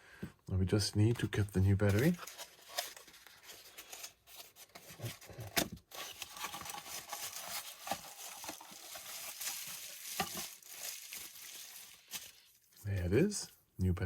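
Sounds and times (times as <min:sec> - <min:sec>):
packaging rustling: 0:01.6 - 0:13.2.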